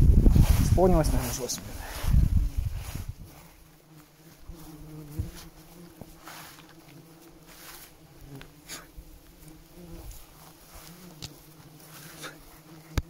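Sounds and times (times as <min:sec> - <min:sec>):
flying insects buzzing: 0:00.0 - 0:13.0.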